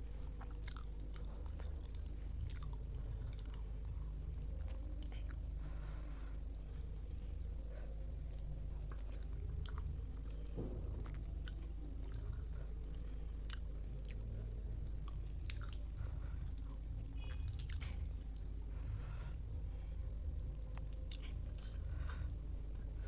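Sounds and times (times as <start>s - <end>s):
close-up chewing: 0.0s - 23.0s
steady low hum: 0.0s - 23.0s.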